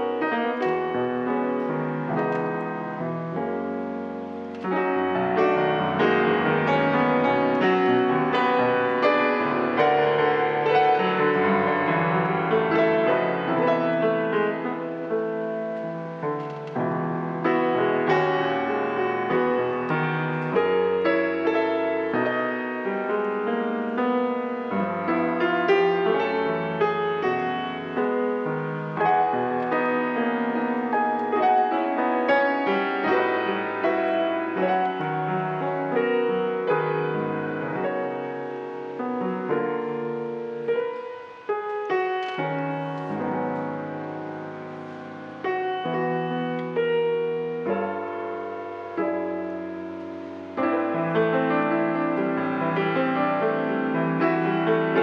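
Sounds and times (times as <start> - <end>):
solo jazz piano ballad: 0.0 - 55.0.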